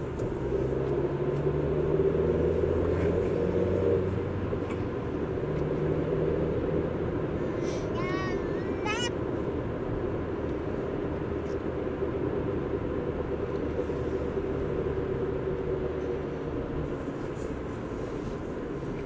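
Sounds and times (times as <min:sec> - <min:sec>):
moving vehicle rumble: 0:00.0 - 0:19.0.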